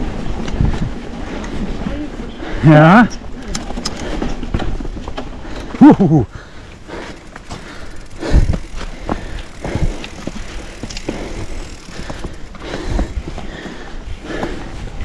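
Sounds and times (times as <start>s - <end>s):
bike tyres rolling over gravel: 0.0s - 15.0s
bike knocks and rattles: 2.9s - 15.0s.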